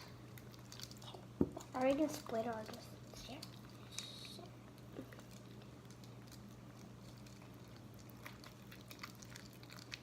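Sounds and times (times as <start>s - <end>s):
steady low hum: 0.0s - 10.0s
sticky slime squelches: 0.0s - 10.0s.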